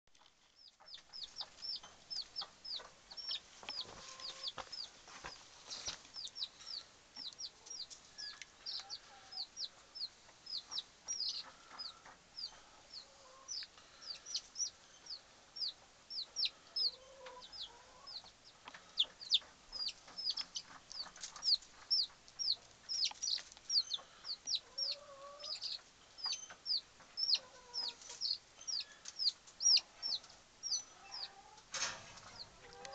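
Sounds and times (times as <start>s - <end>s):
baby chicks peeping: 0.1s - 32.9s.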